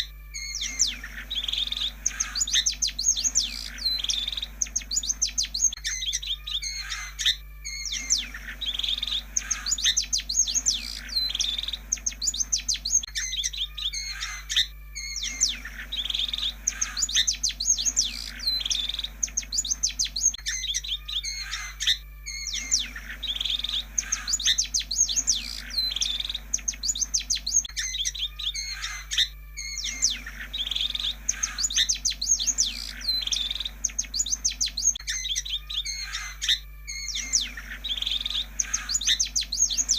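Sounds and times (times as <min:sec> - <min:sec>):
shrike song chirps and trills: 0:00.0 - 0:39.9
steady low hum: 0:00.0 - 0:39.9.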